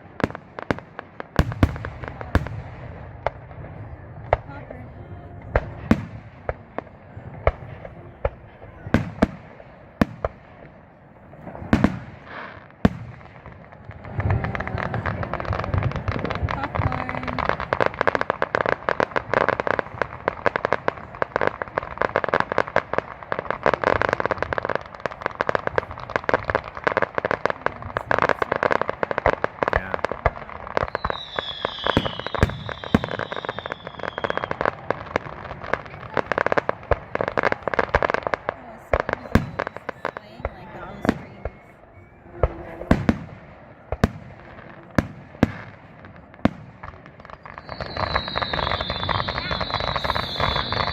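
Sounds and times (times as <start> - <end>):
fireworks bangs and crackle: 0.0 - 50.9.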